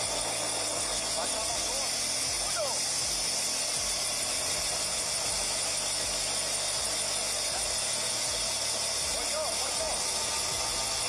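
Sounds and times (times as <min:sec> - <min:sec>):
helicopter cabin noise: 0:00.0 - 0:11.0.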